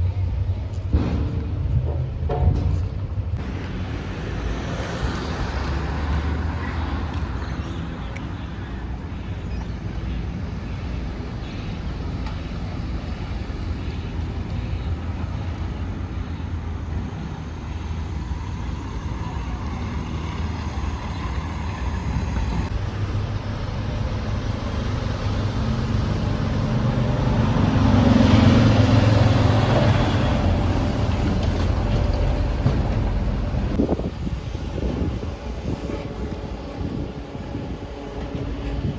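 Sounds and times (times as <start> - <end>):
vehicle passing by: 3.4 - 35.8.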